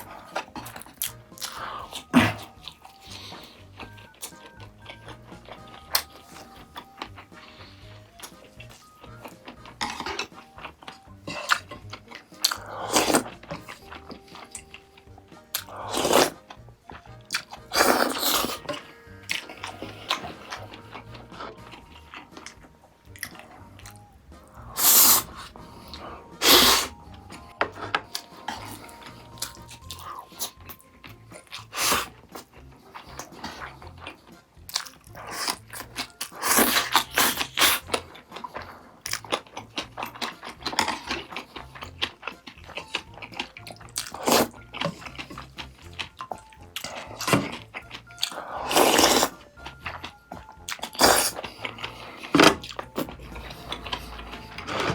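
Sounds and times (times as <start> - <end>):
chewing and crunching food: 0.0 - 54.9
quiet background music: 0.0 - 54.9.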